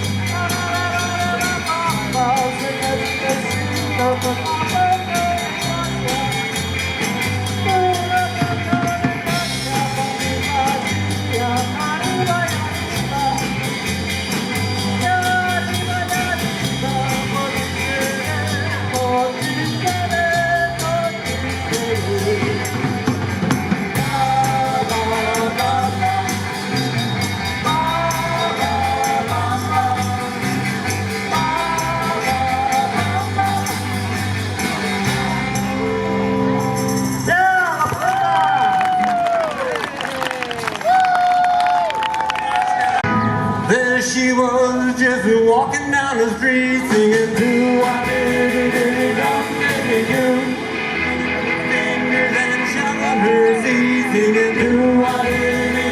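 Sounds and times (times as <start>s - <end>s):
live rock band playing: 0.0s - 39.3s, 42.7s - 45.4s, 46.2s - 55.9s.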